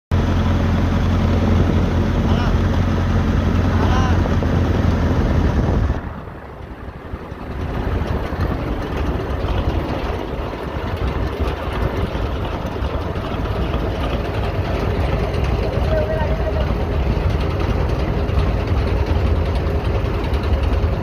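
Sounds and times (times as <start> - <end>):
boat engine running: 0.1 - 21.0.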